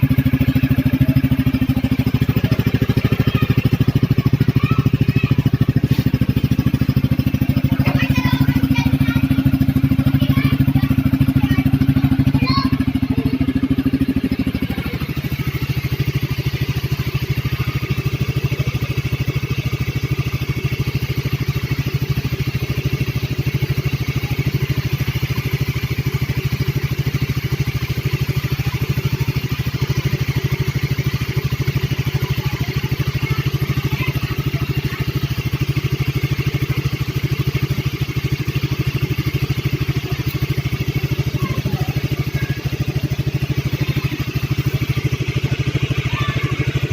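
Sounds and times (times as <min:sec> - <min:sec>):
motorcycle engine revving and idling: 0:00.0 - 0:46.9.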